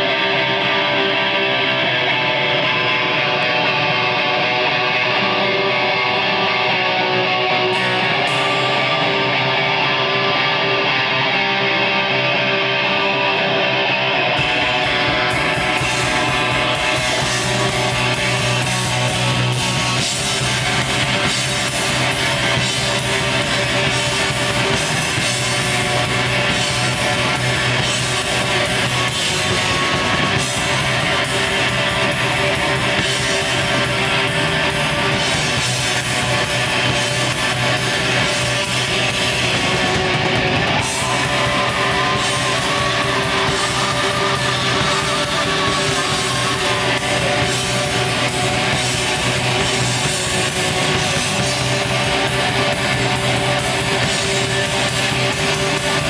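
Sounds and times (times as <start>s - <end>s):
metal band playing: 0.0s - 56.0s.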